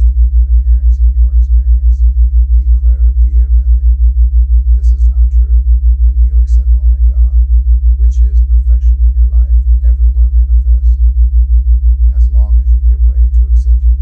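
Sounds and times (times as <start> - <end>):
deep pulsing tone: 0.0 - 14.0.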